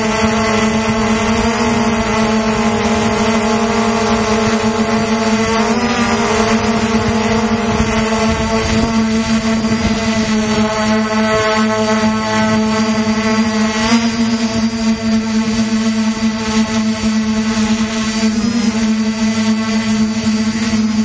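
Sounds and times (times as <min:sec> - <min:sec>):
drone propellers buzzing: 0:00.0 - 0:21.0.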